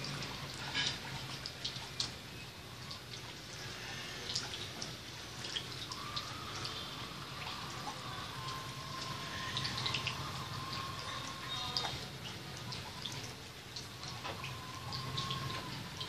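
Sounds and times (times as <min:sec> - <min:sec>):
refrigerant gurgling and ticking: 0:00.0 - 0:16.0.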